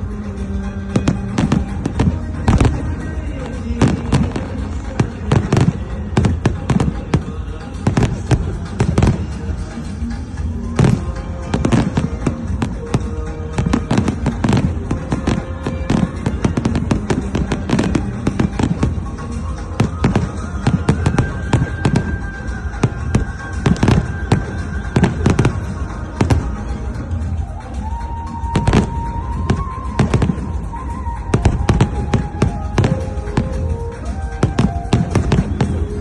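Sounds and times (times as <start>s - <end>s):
fireworks bangs and cracks: 0.0s - 36.0s.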